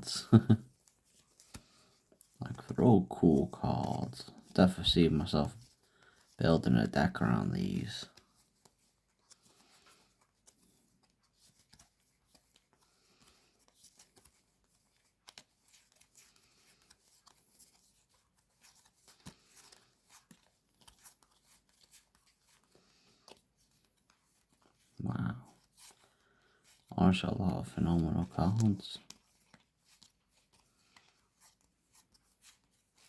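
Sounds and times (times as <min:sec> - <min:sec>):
trading cards being handled: 0:00.1 - 0:33.0.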